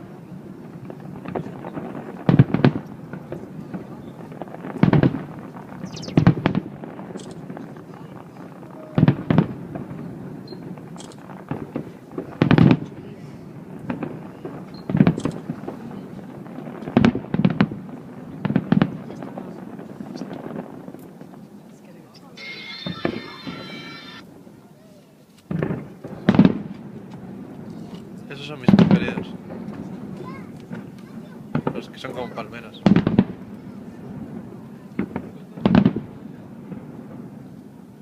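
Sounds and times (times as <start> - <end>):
fireworks bangs with echo: 0.0 - 24.6, 25.5 - 38.0.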